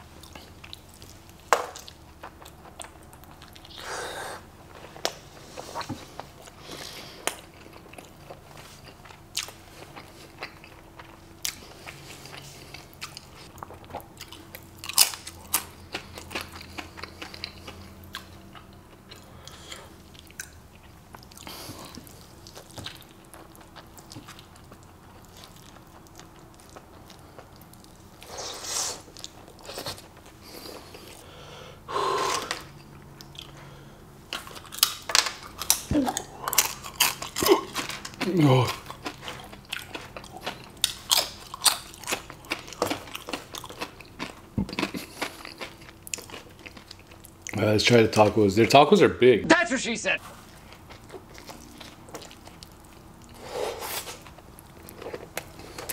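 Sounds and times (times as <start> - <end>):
wet chewing: 4.7 - 31.2, 32.3 - 47.6, 50.3 - 55.9.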